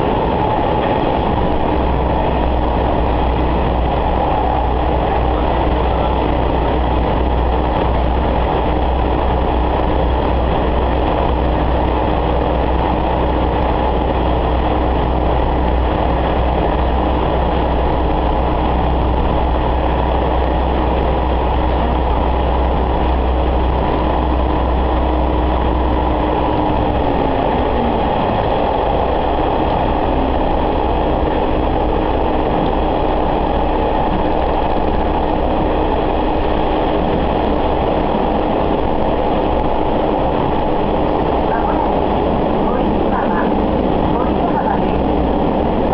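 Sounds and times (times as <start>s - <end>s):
rail running noise: 0.0s - 45.9s
railcar engine drone: 0.0s - 45.9s.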